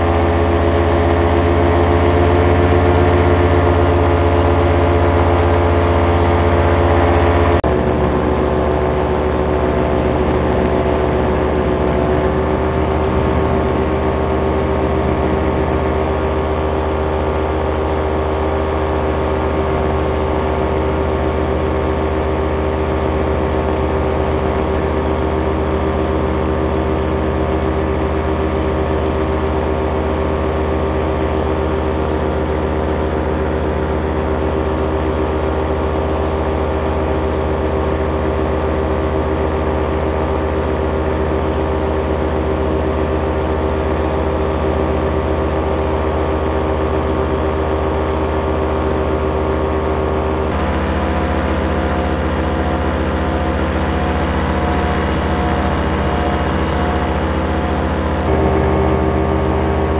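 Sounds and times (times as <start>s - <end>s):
paramotor engine droning: 0.0s - 59.9s.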